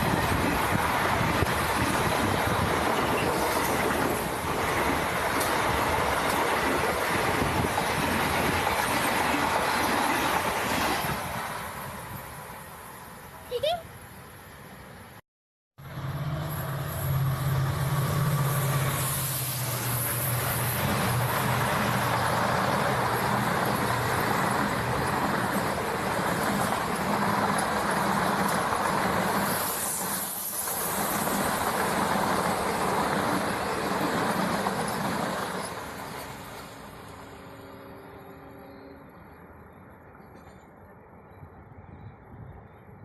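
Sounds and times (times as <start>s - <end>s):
train coaches rushing over rails: 0.0s - 12.9s, 15.8s - 40.9s.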